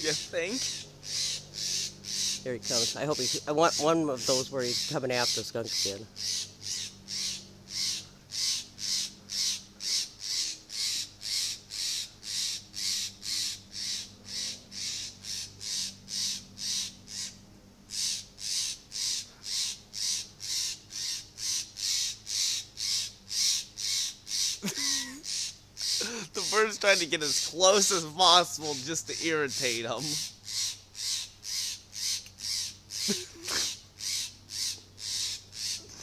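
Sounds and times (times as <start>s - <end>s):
bird scolding calls: 0.0s - 36.0s.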